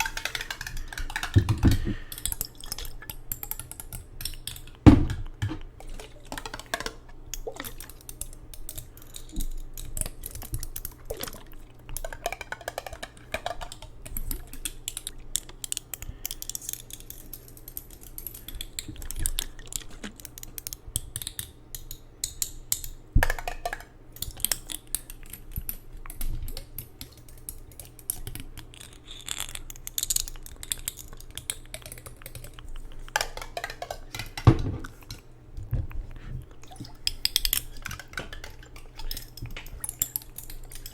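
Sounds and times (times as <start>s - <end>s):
tapping and clicking: 0.0s - 40.9s.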